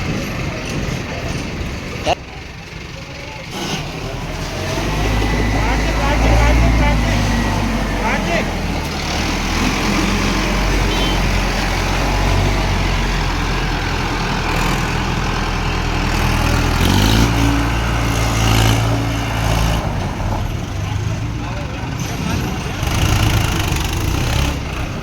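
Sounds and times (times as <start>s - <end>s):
tractor diesel engine idling: 0.0s - 25.0s
engine revving up: 3.4s - 25.0s.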